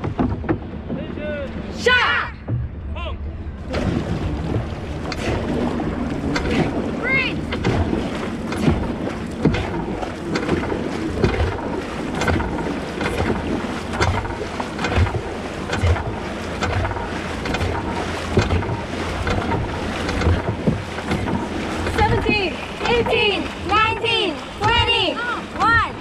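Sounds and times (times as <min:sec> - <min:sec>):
paddles splashing in water: 0:00.0 - 0:26.0.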